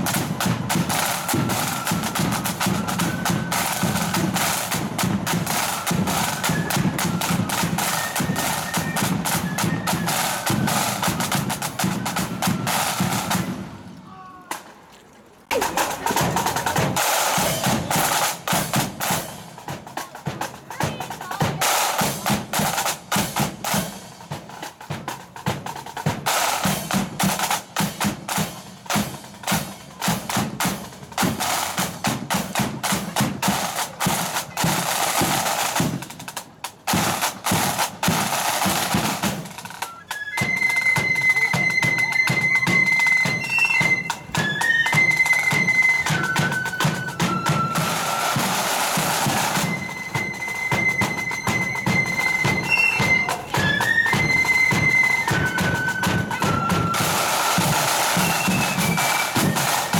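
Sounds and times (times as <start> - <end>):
snare drums playing parade beat: 0.0 - 14.7, 15.5 - 59.9.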